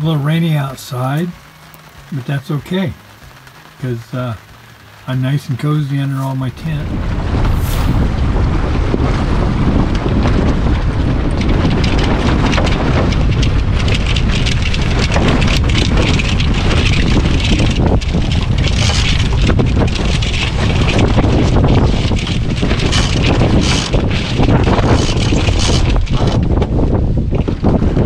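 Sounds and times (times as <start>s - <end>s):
water rushing along hull: 0.0s - 28.0s
wind buffeting microphone: 0.0s - 28.0s.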